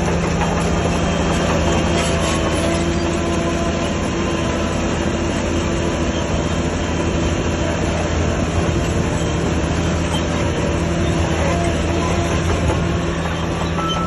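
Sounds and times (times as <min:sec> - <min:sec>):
diesel machine engine drone: 0:00.0 - 0:14.0.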